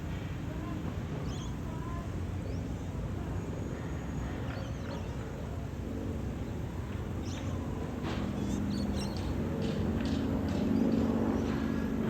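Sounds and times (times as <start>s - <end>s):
distant aircraft engine drone: 0.0s - 12.0s.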